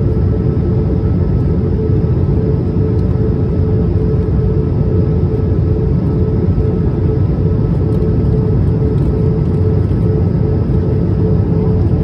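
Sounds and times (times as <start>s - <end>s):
faint steady hum tone: 0.0s - 12.0s
jet engines and airflow rumble: 0.0s - 12.0s.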